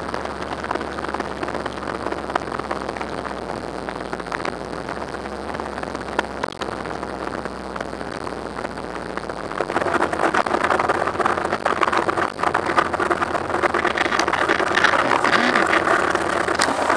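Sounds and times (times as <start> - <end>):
motorcycle engine running: 0.0 - 16.9
wind and road noise: 0.0 - 16.9.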